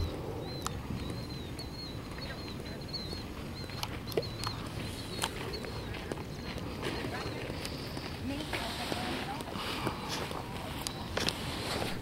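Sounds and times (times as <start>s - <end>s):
bird chirping: 0.0s - 11.6s
outdoor background noise: 0.0s - 12.0s.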